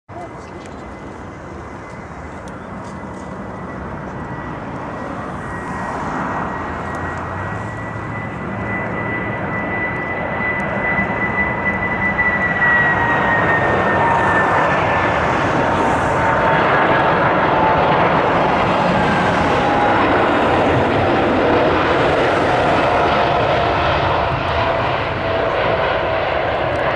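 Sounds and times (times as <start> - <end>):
jet engines roaring: 0.1 - 26.9
thin high whine: 0.2 - 23.6.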